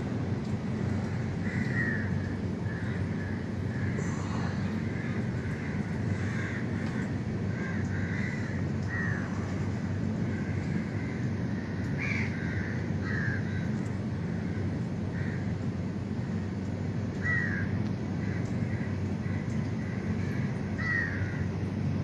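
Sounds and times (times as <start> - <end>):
low background noise: 0.0 - 22.0
crows cawing: 0.4 - 21.6.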